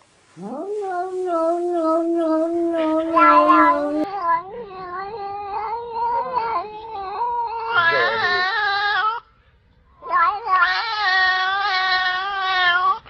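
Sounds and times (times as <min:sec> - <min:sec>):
cat meowing: 0:00.4 - 0:09.2, 0:10.0 - 0:13.0
cat yowling: 0:00.4 - 0:09.2, 0:10.0 - 0:13.0.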